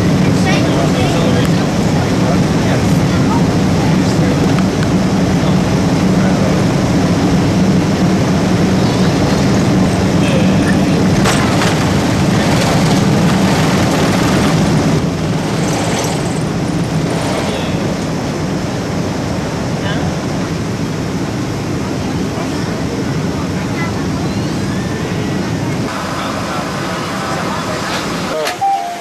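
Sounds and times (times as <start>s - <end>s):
jet engines droning in cabin: 0.0s - 29.0s.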